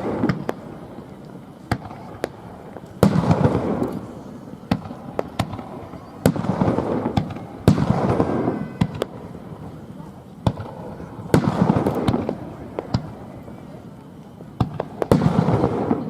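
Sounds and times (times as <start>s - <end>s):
firework crackling: 0.0s - 16.0s
firework shells bursting: 0.0s - 16.0s
light firework pops: 0.0s - 16.0s.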